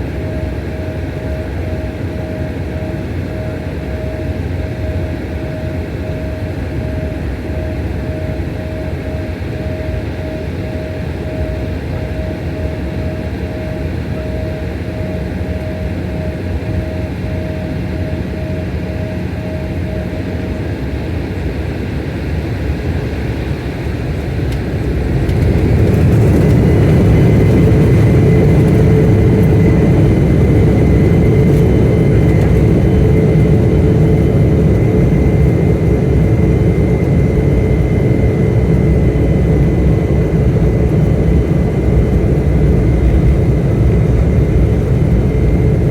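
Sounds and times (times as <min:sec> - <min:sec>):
jet engine whine: 0:00.0 - 0:45.9
jet engines roaring in cabin: 0:00.0 - 0:45.9.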